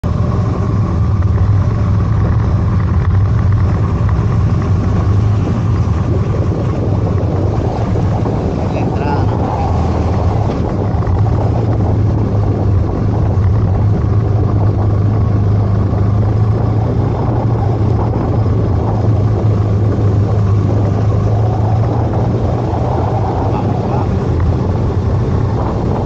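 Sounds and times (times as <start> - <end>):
motorcycle engine running: 0.0 - 26.0
road noise: 0.0 - 26.0
wind noise: 0.0 - 26.0.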